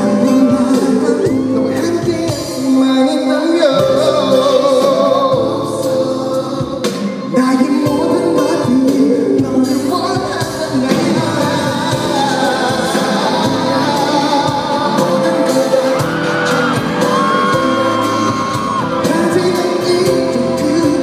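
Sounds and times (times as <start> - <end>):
man singing into microphone: 0.0 - 21.0
pop backing music: 0.0 - 21.0.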